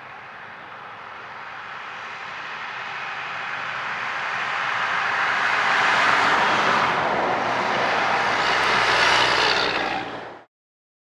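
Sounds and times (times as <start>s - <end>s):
heavy trucks passing: 0.0s - 10.5s.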